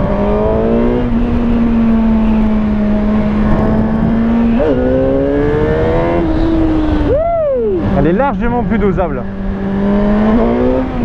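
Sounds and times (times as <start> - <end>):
wind rush on microphone: 0.0 - 11.0.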